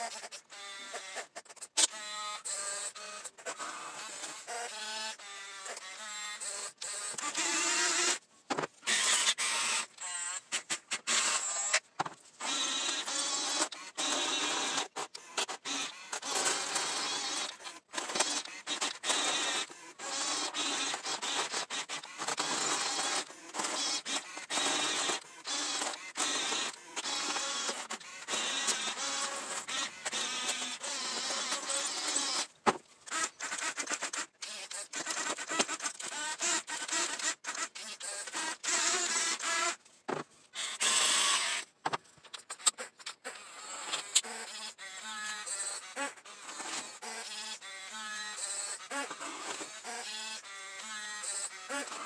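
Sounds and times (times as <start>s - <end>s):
small electric motors whirring: 0.0s - 52.0s.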